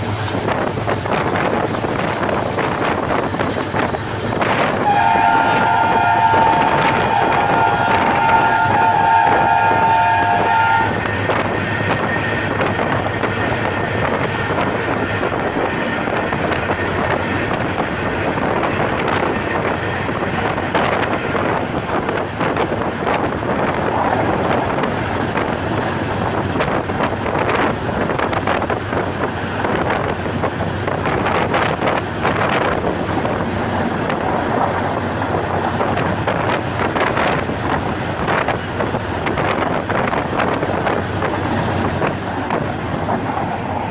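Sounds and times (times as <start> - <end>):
train running at speed: 0.0 - 43.9
train wheels clicking and knocking: 0.0 - 43.9.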